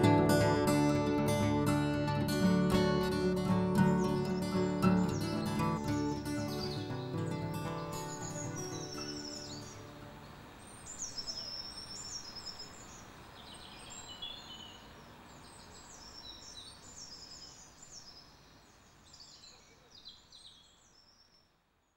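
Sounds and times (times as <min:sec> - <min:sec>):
outdoor ambient hiss: 0:00.0 - 0:21.9
songbirds chirping: 0:00.0 - 0:21.9.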